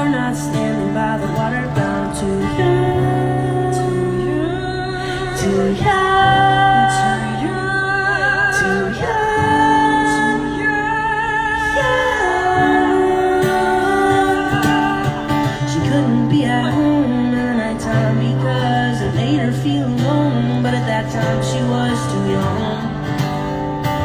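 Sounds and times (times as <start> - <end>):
person singing: 0.0 - 23.5
plucked acoustic guitar: 0.0 - 24.0.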